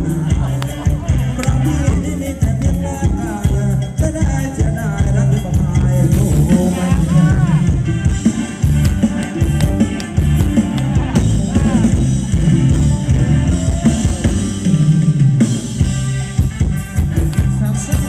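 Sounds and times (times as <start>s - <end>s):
live band dance music: 0.0s - 18.0s.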